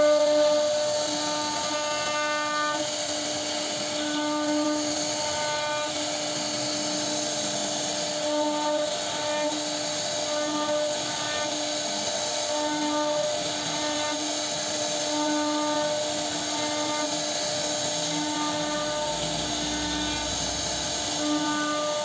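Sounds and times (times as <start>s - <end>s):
hiss of wood cutting: 0.0s - 22.0s
router spindle whining: 0.0s - 22.0s.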